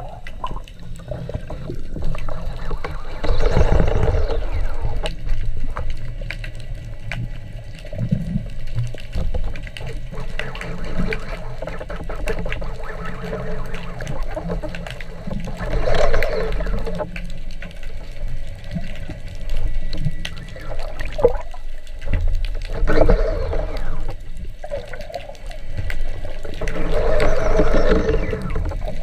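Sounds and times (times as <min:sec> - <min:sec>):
small underwater clicks: 0:00.0 - 0:29.0
underwater moving water rumble: 0:00.0 - 0:29.0.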